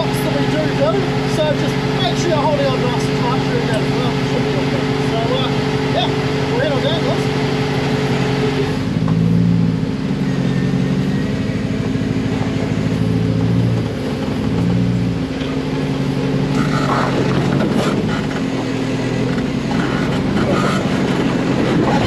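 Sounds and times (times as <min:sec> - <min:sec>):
buggy engine running at low revs: 0:00.0 - 0:22.0.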